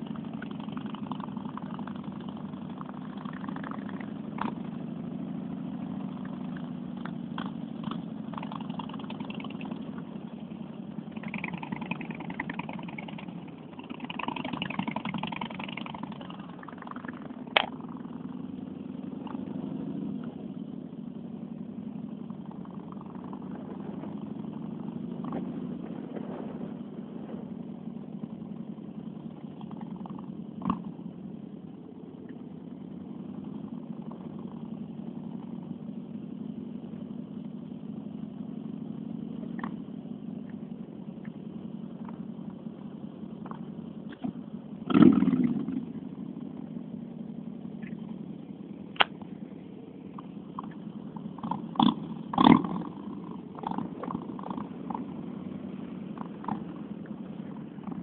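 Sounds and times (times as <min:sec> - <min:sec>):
car cabin driving hum: 0:00.0 - 0:58.0.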